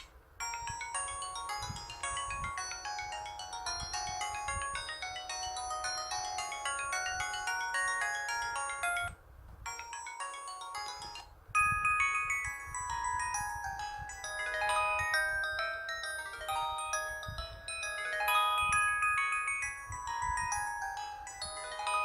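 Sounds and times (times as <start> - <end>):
synthesized phone ringtone: 0.0 - 22.0.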